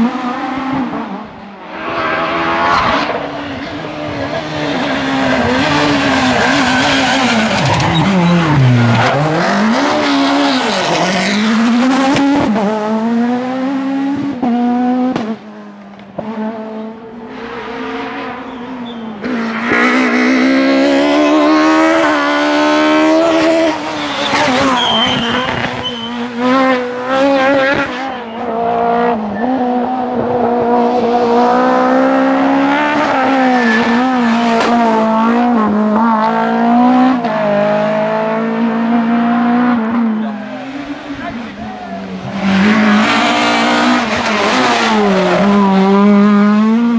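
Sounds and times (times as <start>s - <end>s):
rally car engines revving: 0.0s - 46.9s.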